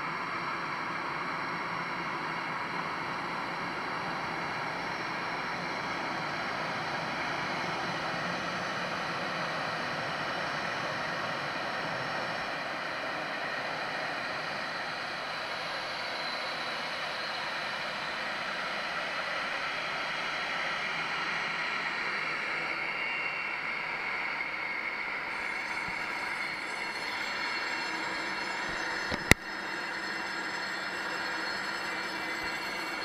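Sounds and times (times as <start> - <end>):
high turbine whine: 0.0 - 33.0
jet turbines roaring: 0.1 - 33.0.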